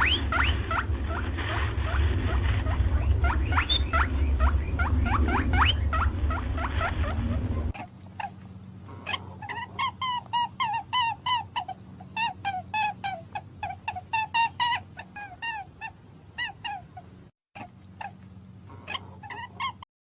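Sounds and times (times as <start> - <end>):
low hum: 0.0 - 19.8
animal chirping: 0.0 - 19.9.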